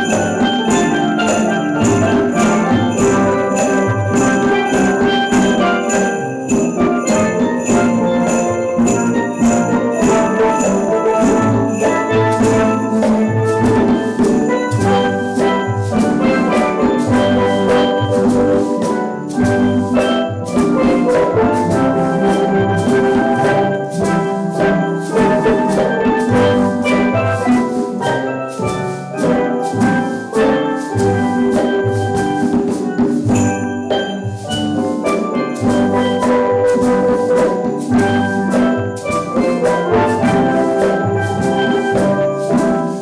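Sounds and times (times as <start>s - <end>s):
steel drum band playing: 0.0s - 43.0s.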